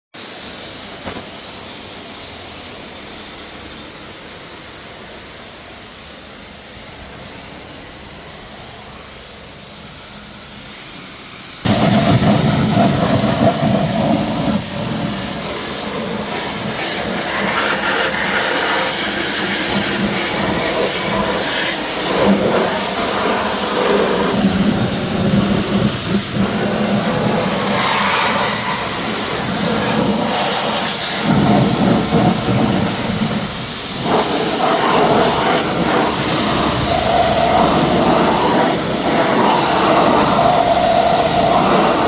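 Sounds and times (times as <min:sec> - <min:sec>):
pressure washer spraying water: 0:00.2 - 0:42.0.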